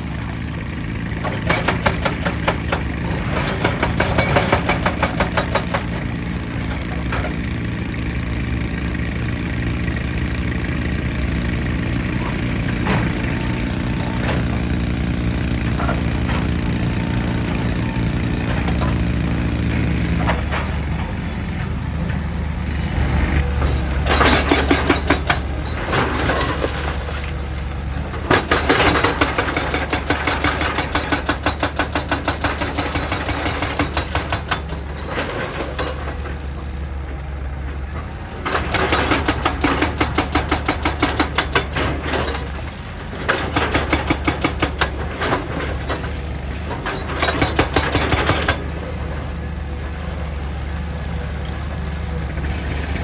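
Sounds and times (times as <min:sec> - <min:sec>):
hydraulic breaker hammering rock: 0:00.0 - 0:27.2, 0:27.9 - 0:36.6, 0:38.4 - 0:50.9
diesel engine running: 0:00.0 - 0:53.0.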